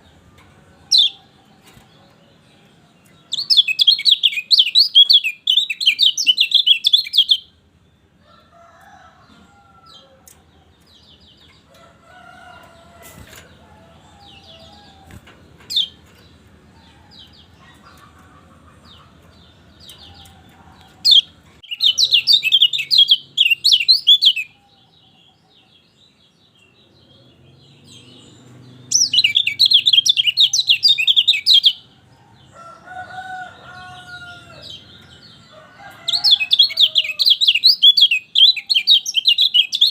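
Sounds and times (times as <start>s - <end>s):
bird chattering song: 0.8s - 7.6s, 13.5s - 32.4s, 33.5s - 39.9s.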